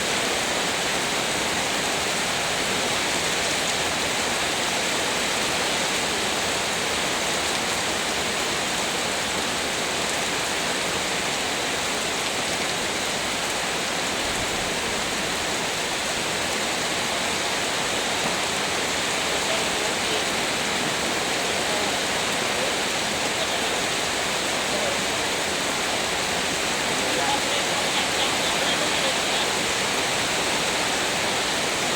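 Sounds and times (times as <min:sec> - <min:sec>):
heavy rain pouring: 0:00.0 - 0:31.9.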